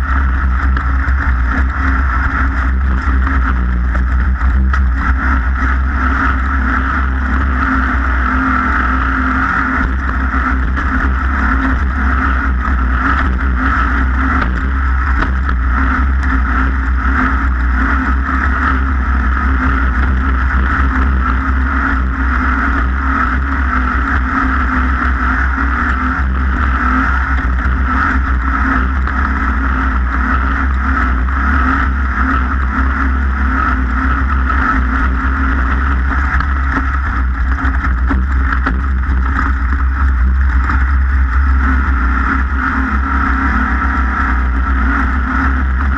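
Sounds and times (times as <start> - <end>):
engine running with low rumble: 0.0 - 45.9.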